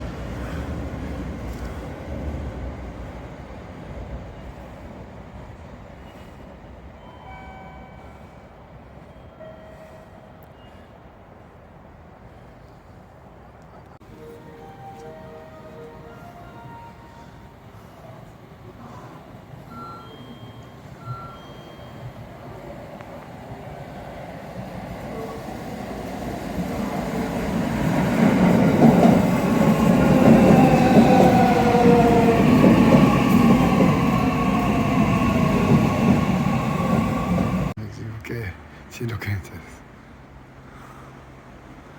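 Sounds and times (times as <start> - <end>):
electric train rumbling: 0.0 - 38.1.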